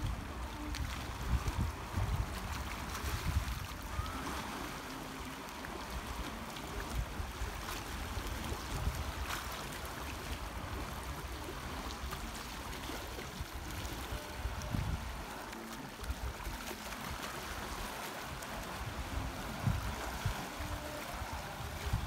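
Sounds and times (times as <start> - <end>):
water lapping over rocks: 0.0 - 22.0
wind rumble on microphone: 0.0 - 22.0.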